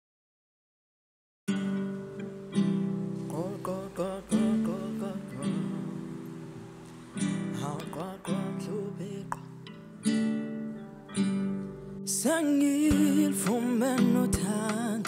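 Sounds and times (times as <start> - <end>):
acoustic guitar playing: 1.5 - 15.0.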